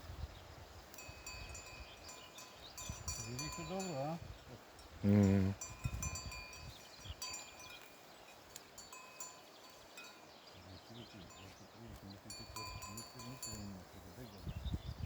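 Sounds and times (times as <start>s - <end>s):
goat bells clinking: 0.9s - 14.3s.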